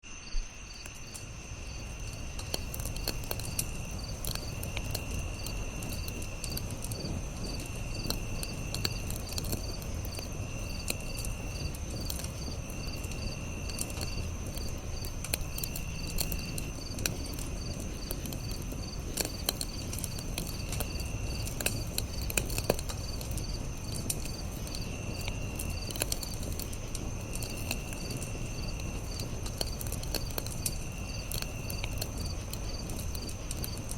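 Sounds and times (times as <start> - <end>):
insects chirping: 0.0 - 33.9
insects trilling: 0.0 - 33.9
low insect trill: 0.0 - 33.9
campfire crackling and popping: 0.4 - 33.9.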